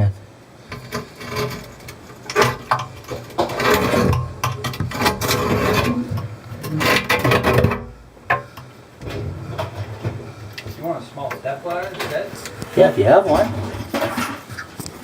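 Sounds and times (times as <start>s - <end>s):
scraping and rubbing: 0.6s - 15.0s.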